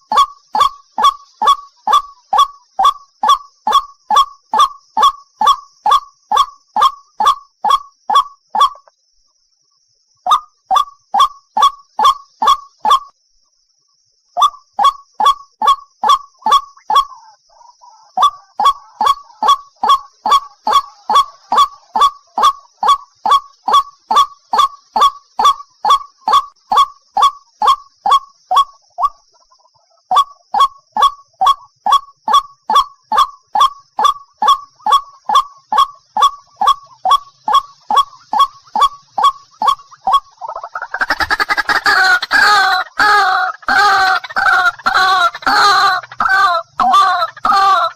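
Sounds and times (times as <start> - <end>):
waterhen calling: 0.0 - 8.9, 14.4 - 47.9.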